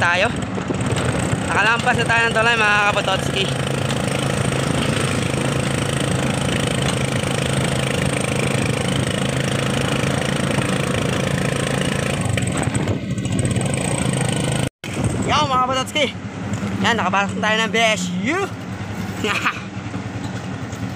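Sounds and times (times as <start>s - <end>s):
motorcycle engine running: 0.0s - 20.9s
road and wind noise: 0.0s - 20.9s.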